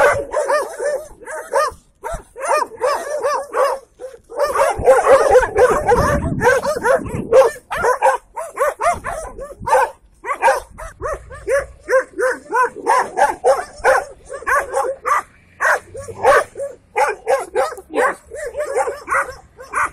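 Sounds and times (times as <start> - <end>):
dogs barking: 0.0 - 19.9.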